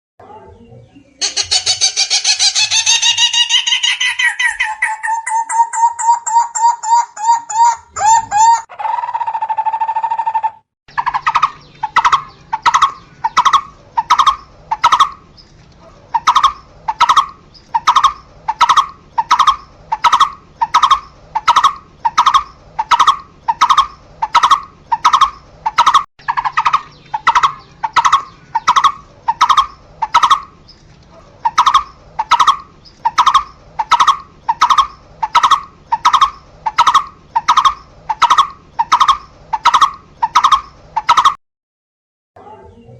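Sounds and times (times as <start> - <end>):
barbet calling: 1.2 - 41.4.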